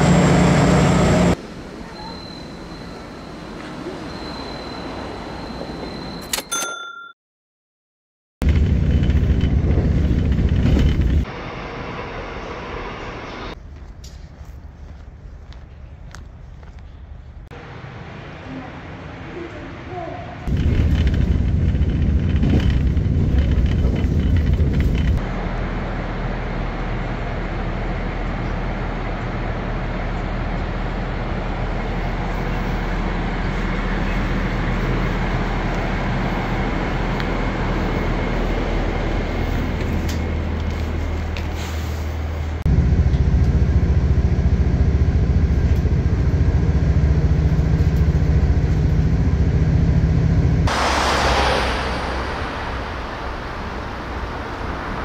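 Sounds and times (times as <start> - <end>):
diesel railcar running: 0.0 - 6.4, 8.4 - 55.0
strong low hum: 8.4 - 19.3, 20.5 - 41.3, 42.3 - 55.0.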